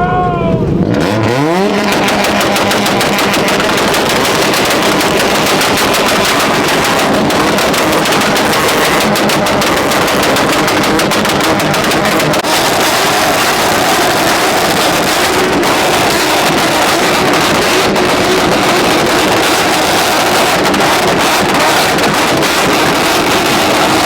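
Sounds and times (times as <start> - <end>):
exhaust crackling: 0.1 - 24.0
car engine at high revs: 0.6 - 24.0.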